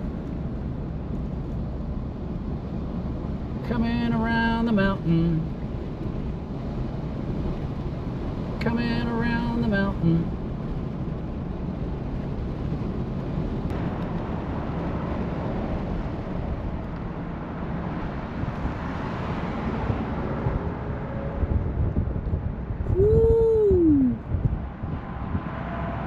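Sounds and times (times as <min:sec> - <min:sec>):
car engine and tyre rumble: 0:00.0 - 0:26.0
wind: 0:00.0 - 0:26.0.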